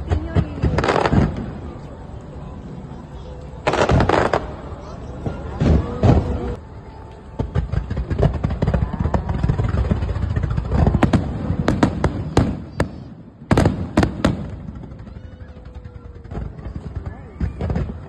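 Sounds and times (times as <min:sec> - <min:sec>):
fireworks bangs and cracks: 0:00.0 - 0:02.1, 0:03.6 - 0:18.0.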